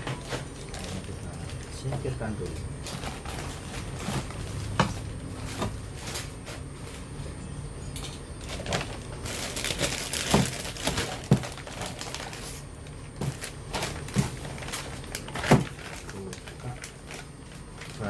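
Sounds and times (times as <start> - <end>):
packaging crinkling and rustling: 0.0 - 7.1, 8.3 - 18.0.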